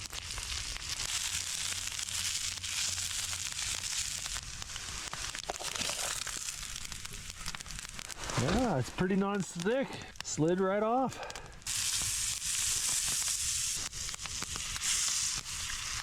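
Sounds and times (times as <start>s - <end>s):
fine crackling pops: 0.0s - 16.0s
food sizzling on griddle: 0.0s - 16.0s.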